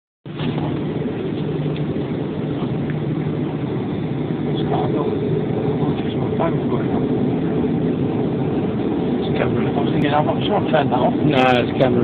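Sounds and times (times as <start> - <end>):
airplane cabin engine rumble: 0.2 - 12.0.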